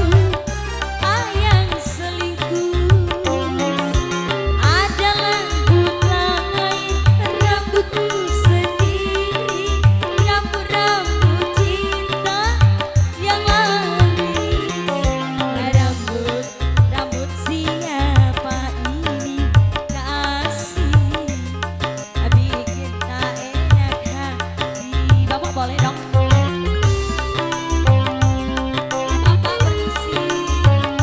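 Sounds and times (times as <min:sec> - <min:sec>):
drum and bass beat: 0:00.0 - 0:31.0
live band music: 0:00.0 - 0:31.0.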